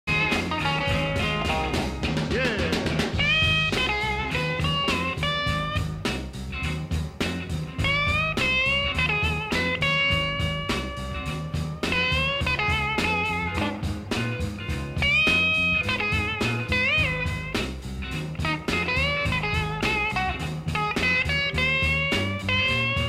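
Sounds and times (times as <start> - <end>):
bluesy guitar music: 0.1 - 23.0
steady drum beat: 0.1 - 23.0.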